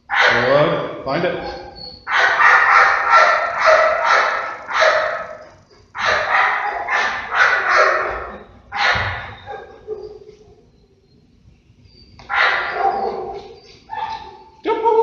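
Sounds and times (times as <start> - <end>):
dog barking: 0.1 - 10.4, 12.3 - 14.5.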